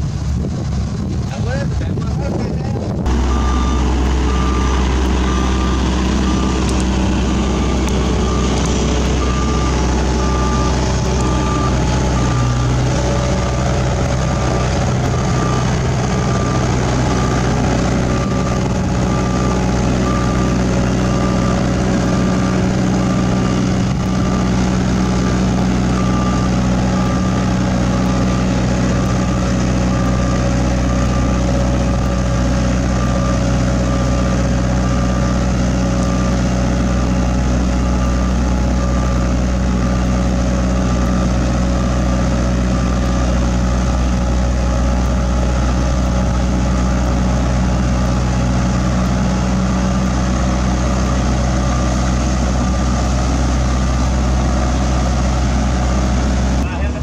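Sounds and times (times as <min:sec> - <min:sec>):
diesel machinery engine hum: 0:00.0 - 0:57.0
backup alarm beeping: 0:03.1 - 0:56.2.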